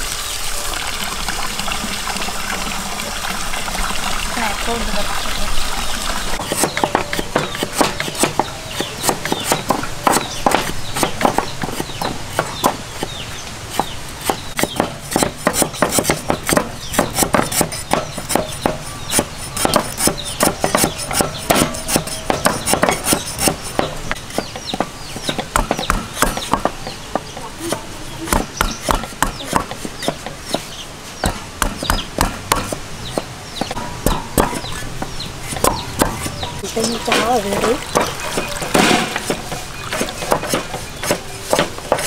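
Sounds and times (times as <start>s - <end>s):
cleavers chopping on wooden block: 6.4s - 42.0s.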